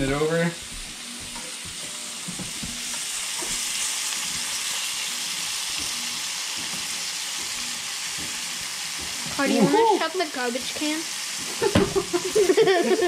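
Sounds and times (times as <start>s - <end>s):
nuggets sizzling in frying pan: 0.0s - 13.0s.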